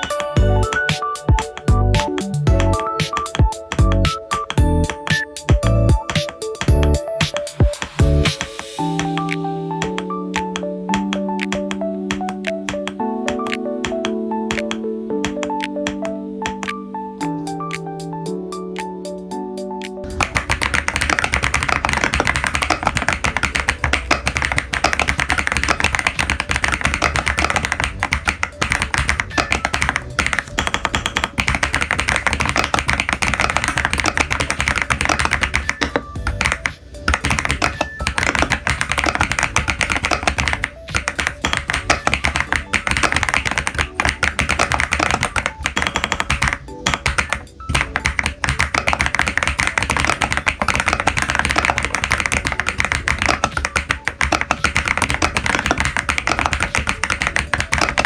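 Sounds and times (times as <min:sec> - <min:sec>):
mechanical keyboard typing: 0:00.0 - 0:16.8, 0:20.0 - 0:58.0.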